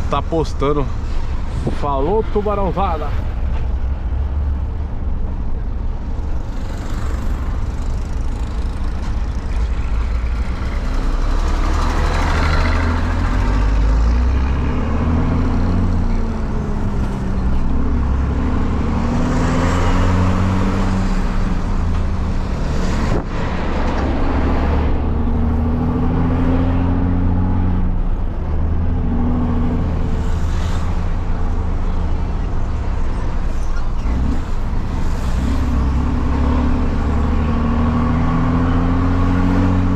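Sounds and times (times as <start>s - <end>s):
truck diesel engine accelerating: 0.0s - 39.9s.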